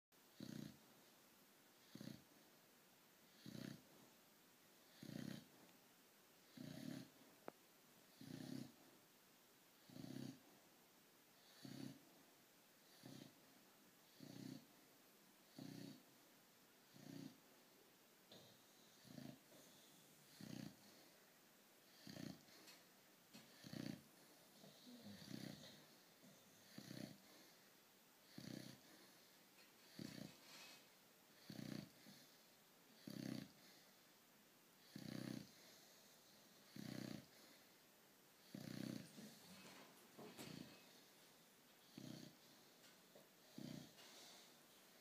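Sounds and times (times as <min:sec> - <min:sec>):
faint snoring: 0:00.2 - 0:01.0, 0:01.8 - 0:02.4, 0:03.2 - 0:04.0, 0:04.8 - 0:05.7, 0:06.4 - 0:08.9, 0:09.8 - 0:10.6, 0:11.4 - 0:12.2, 0:12.8 - 0:14.8, 0:15.4 - 0:16.2, 0:16.8 - 0:17.4, 0:18.3 - 0:34.1, 0:34.8 - 0:37.8, 0:38.4 - 0:45.0.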